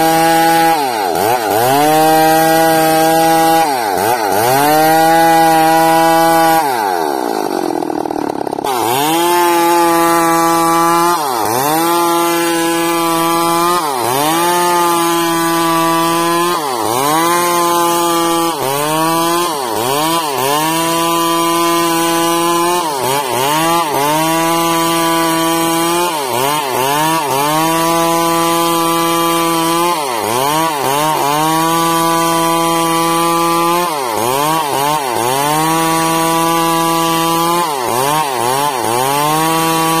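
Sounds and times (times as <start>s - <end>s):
chainsaw ripping a log: 0.0s - 40.0s.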